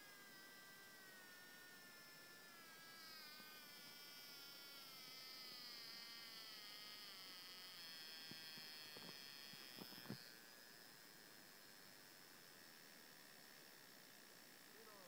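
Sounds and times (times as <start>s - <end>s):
high buzz of ignition sparks: 0.0s - 15.0s.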